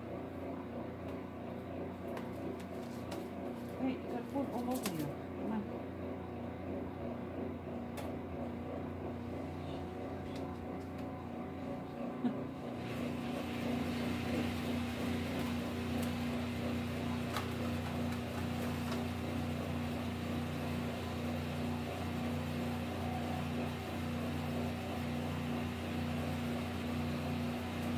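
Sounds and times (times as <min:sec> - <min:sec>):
mechanical hum: 0:00.0 - 0:27.9.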